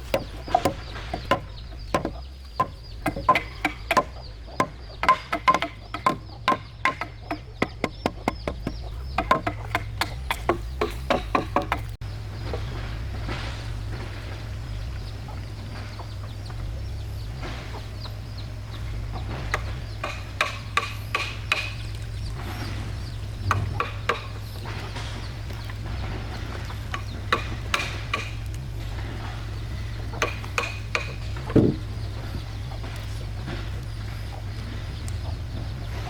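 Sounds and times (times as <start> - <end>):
chickens clucking: 0.0 - 36.0
steady low hum: 0.0 - 36.0.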